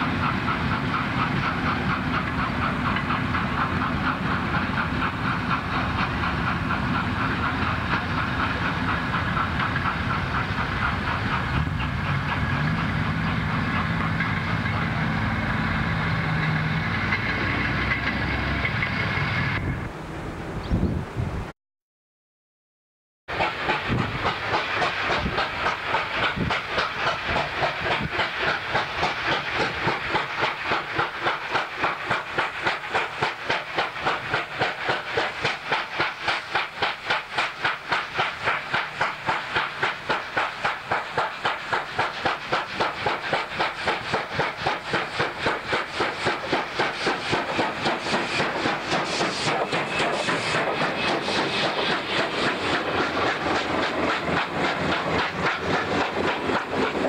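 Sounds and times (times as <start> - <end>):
steam hiss: 0.0 - 19.8, 23.3 - 57.0
steam locomotive exhaust beat: 0.0 - 20.0, 23.3 - 57.0.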